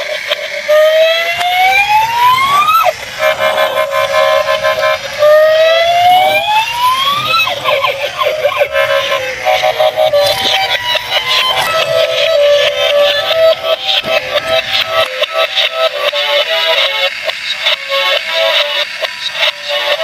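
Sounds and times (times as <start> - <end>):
choppy steady tone: 0.0 - 18.8
electronic toy siren wailing: 0.6 - 16.9.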